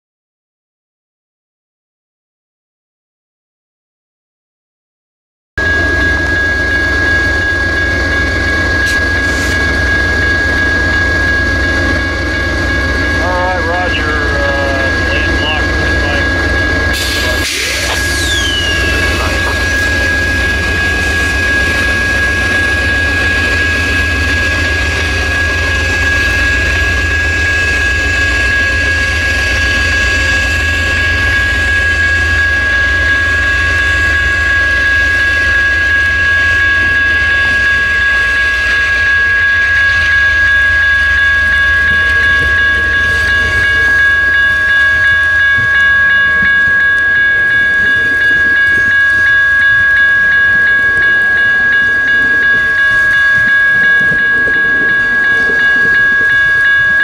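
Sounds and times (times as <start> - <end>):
high-pitched whine: 5.6 - 57.0
passenger train rumbling past: 5.6 - 57.0.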